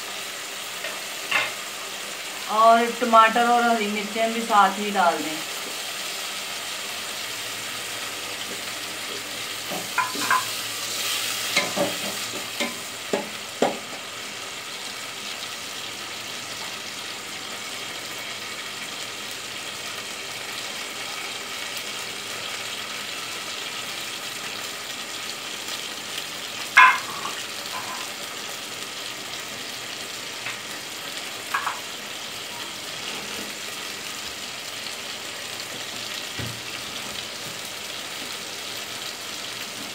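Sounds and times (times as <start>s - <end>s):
broth boiling and sizzling: 0.0s - 39.9s.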